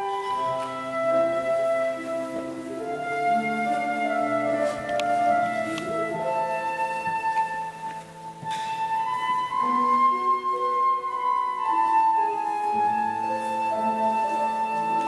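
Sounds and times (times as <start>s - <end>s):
flute melody: 0.0s - 15.0s
piano accompaniment: 0.0s - 15.0s.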